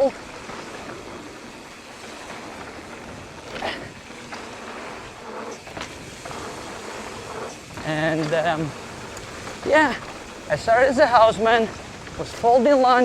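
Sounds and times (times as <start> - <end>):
bike knocks and rattles: 0.0 - 13.0
bike tyre and wind rush: 0.0 - 13.0.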